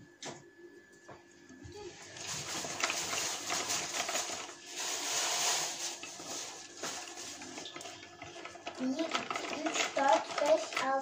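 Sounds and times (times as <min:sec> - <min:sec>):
whisk beating batter in metal pot: 0:02.1 - 0:11.0.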